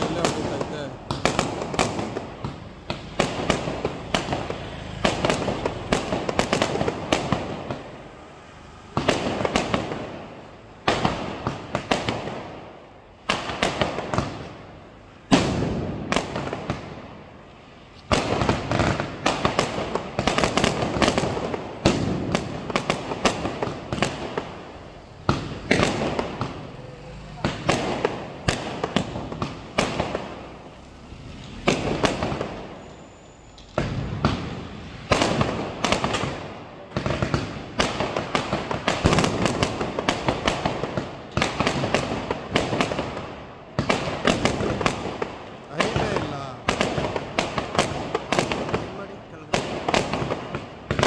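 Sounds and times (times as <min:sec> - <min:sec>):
fireworks bangs: 0:00.0 - 0:51.0
fireworks crackling: 0:00.0 - 0:51.0.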